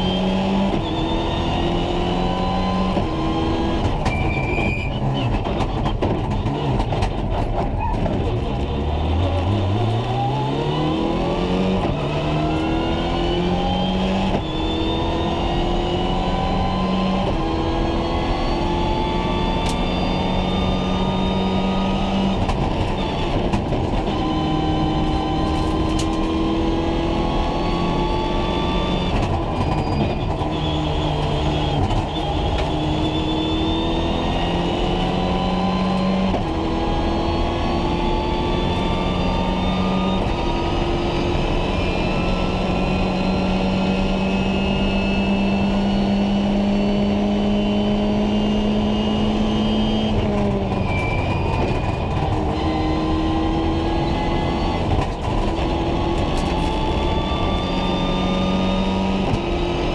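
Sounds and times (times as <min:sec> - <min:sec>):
rally car engine at full throttle: 0:00.0 - 0:59.9
road and tyre noise: 0:00.0 - 0:59.9.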